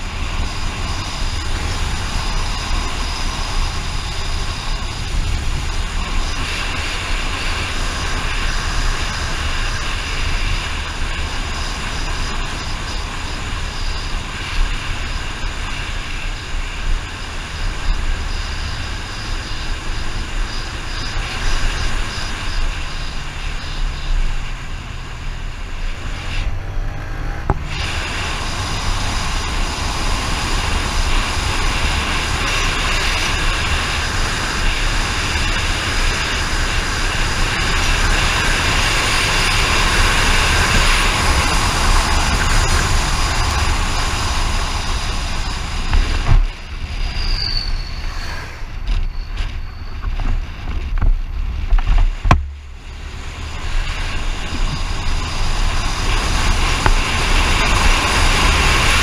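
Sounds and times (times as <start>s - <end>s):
low engine drone: 0.0s - 59.0s
road and wind noise: 0.0s - 59.0s.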